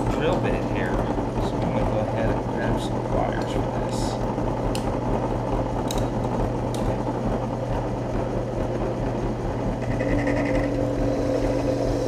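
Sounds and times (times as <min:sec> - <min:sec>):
drill press motor running: 0:00.0 - 0:12.0.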